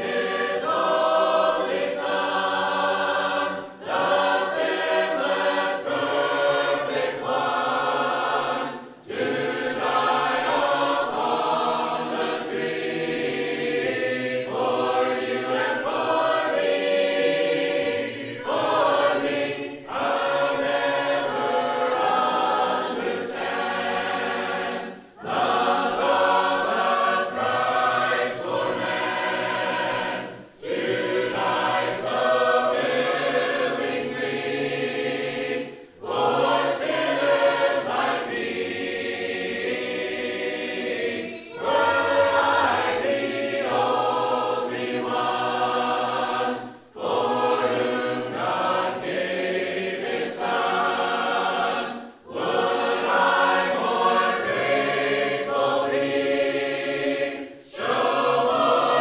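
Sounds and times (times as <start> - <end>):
congregation singing a hymn: 0.0 - 59.0.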